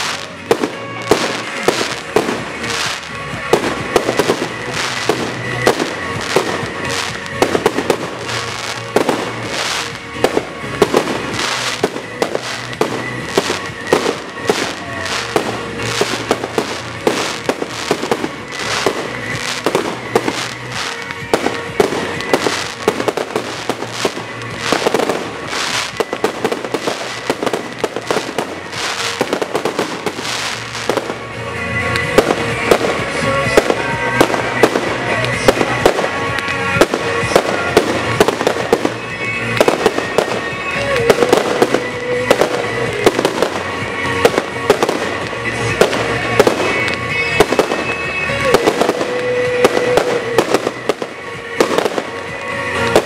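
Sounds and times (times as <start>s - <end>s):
fireworks bangs and crackles: 0.0s - 53.0s
music playing: 0.0s - 53.0s.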